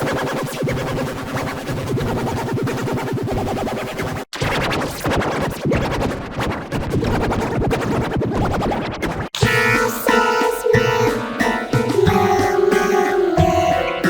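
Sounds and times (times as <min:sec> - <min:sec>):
glitchy stuttering music: 0:00.0 - 0:14.0.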